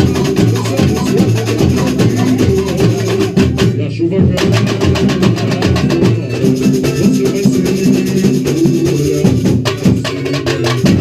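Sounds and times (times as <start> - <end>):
drums: 0.0 - 11.0
shaker rhythm: 0.0 - 11.0.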